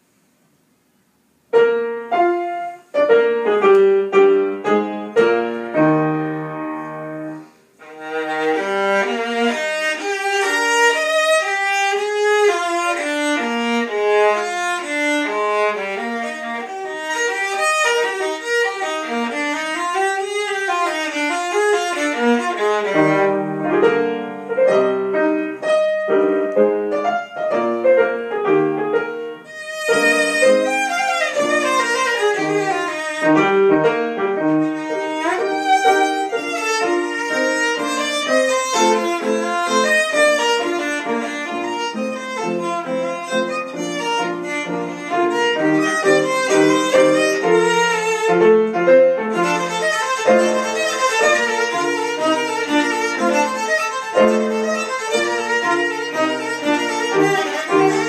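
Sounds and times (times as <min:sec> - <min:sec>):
piano accompaniment: 0:01.2 - 0:58.0
bowed violin: 0:04.6 - 0:28.2, 0:29.0 - 0:58.0.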